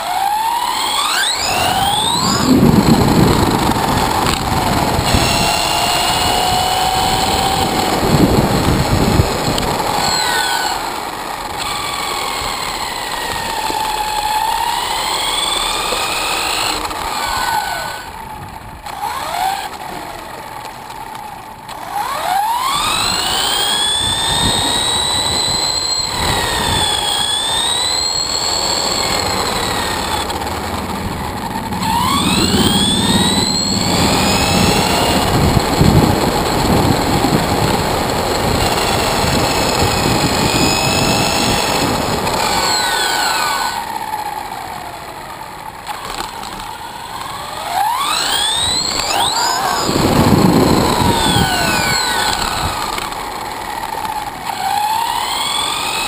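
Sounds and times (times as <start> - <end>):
electric motor whining: 0.0 - 56.0
tyres rumbling on asphalt: 0.0 - 56.0.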